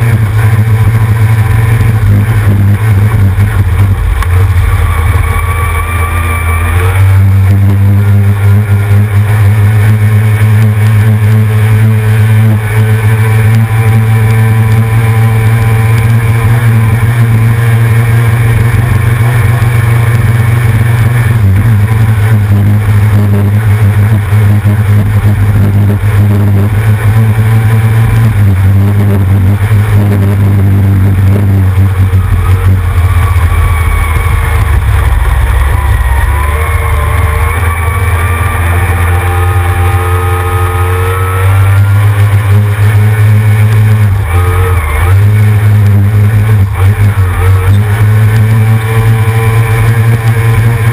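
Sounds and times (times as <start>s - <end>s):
outboard engine droning: 0.0s - 50.9s.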